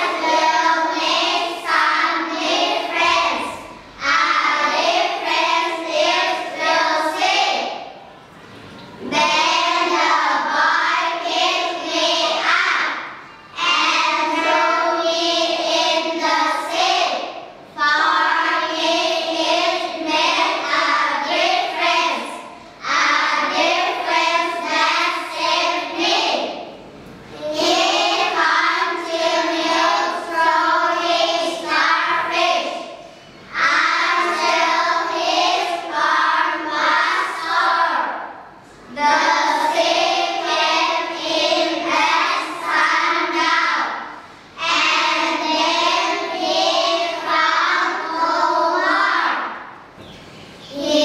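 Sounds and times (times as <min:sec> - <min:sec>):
children's choir singing: 0:00.0 - 0:08.2, 0:08.9 - 0:51.0.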